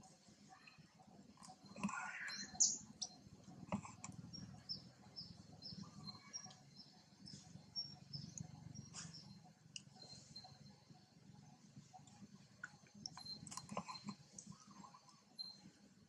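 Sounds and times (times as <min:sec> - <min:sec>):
outdoor background: 0:00.0 - 0:16.0
small bird chirping: 0:00.5 - 0:15.8.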